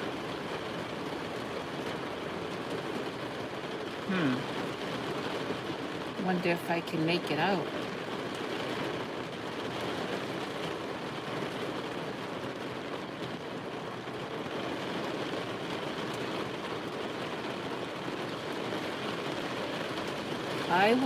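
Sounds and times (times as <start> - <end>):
rain on car roof: 0.0 - 21.0.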